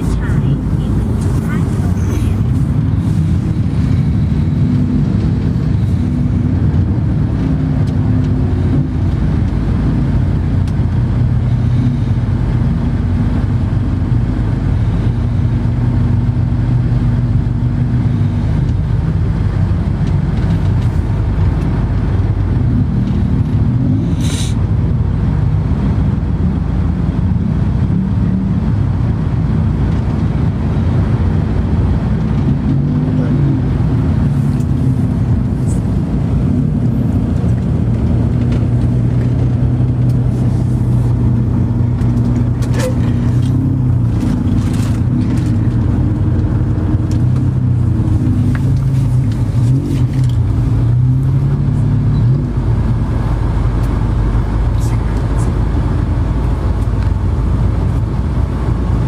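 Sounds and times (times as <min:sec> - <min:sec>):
motor vehicle engine rumble: 0:00.0 - 0:59.0.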